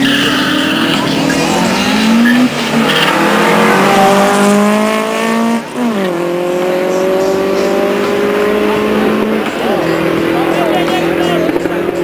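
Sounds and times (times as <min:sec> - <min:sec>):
racing car engines accelerating: 0:00.0 - 0:12.0.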